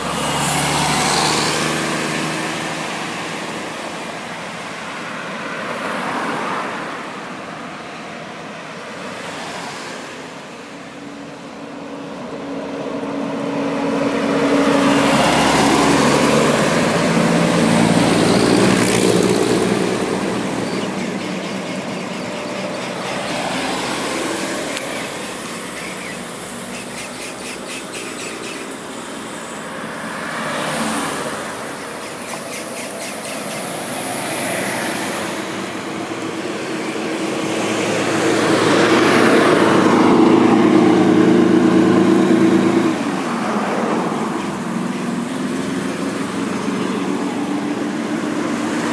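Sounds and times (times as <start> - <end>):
buses and cars driving past: 0.0 - 48.9.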